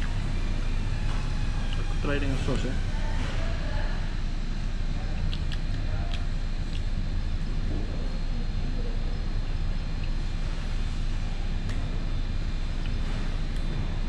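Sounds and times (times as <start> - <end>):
restaurant room rumble: 0.0 - 14.0.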